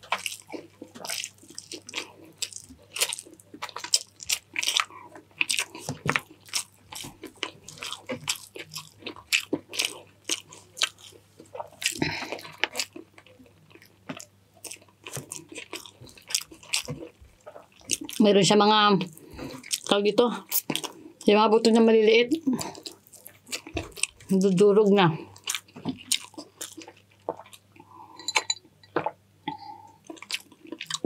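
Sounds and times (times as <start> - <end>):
person chewing and biting: 0.0 - 18.2, 19.1 - 19.9, 20.5 - 21.0, 22.6 - 24.5, 25.4 - 29.2, 30.0 - 31.0.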